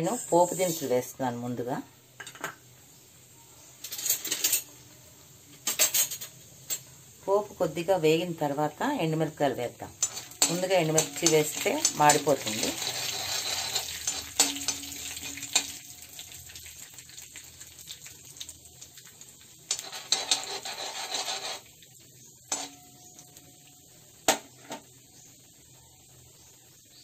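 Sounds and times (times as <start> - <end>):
spices sizzling in hot oil: 0.0 - 27.0.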